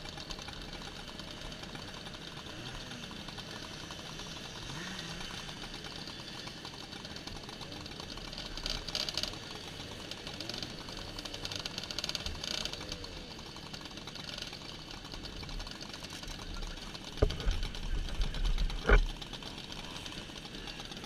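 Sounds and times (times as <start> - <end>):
moped engines idling: 0.0 - 21.0.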